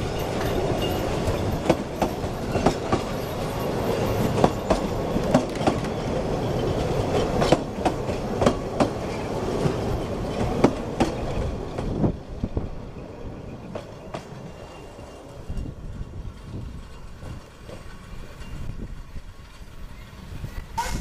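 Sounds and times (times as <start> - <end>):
train wheels clicking over rail joints: 0.0 - 12.6, 13.6 - 21.0
train coaches rumbling: 0.0 - 21.0.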